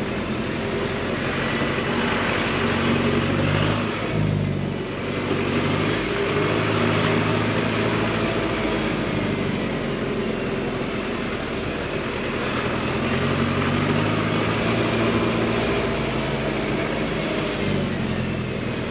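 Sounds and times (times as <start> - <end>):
vehicle engine running while driving: 0.0 - 18.9.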